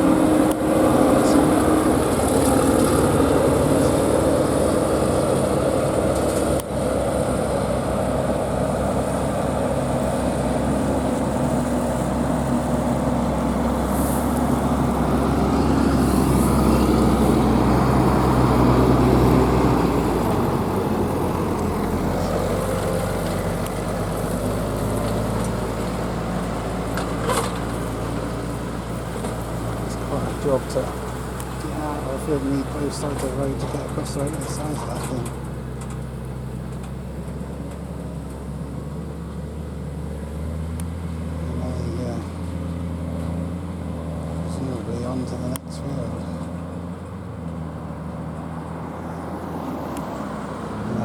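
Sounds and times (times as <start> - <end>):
combine harvester engine droning: 0.0 - 51.0.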